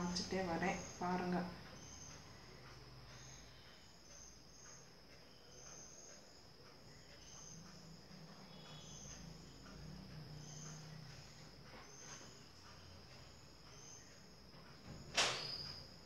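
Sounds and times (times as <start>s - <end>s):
crickets chirping: 0.0s - 16.0s
faint low hum: 0.0s - 16.0s.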